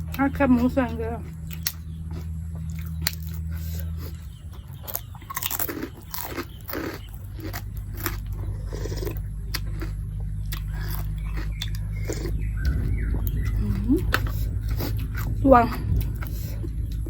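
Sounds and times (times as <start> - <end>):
low steady hum: 0.0 - 17.0
person chewing crunchy food: 0.0 - 17.0.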